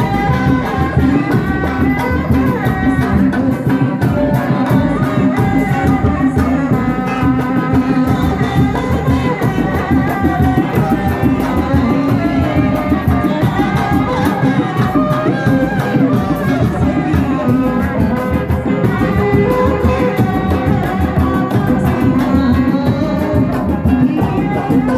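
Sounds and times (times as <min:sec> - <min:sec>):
hand drums beating fast rhythm: 0:00.0 - 0:24.9
wavering melody: 0:00.0 - 0:24.9.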